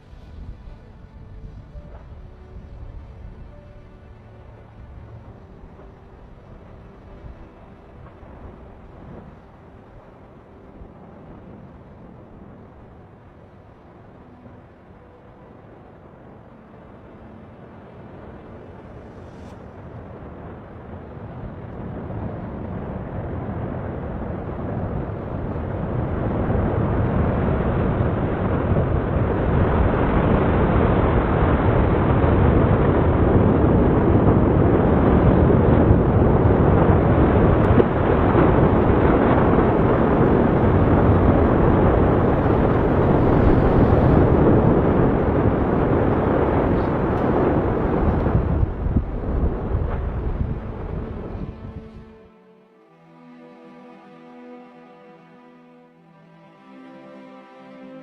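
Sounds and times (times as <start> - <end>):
volcanic eruption rumbling: 0.0 - 52.3.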